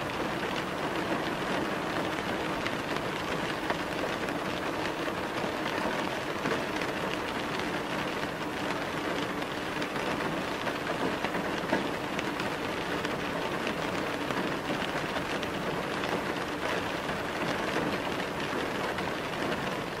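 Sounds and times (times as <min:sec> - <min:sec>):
rain drops tapping: 0:00.0 - 0:20.0
steady rain: 0:00.0 - 0:20.0.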